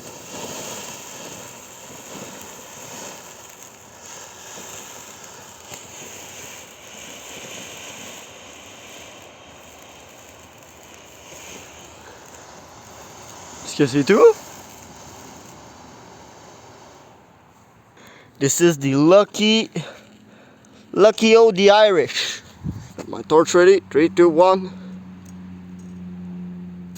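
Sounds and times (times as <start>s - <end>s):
firework fountain hissing: 0.0s - 24.5s.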